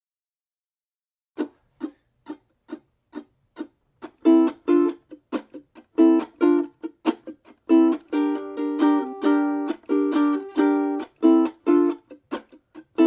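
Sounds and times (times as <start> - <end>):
ukulele strumming: 1.4 - 13.0.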